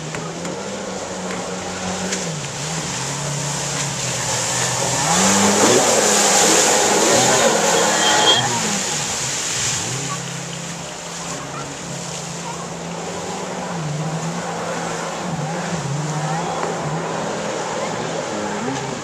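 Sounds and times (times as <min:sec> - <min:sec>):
jet ski engines running: 0:00.0 - 0:19.0.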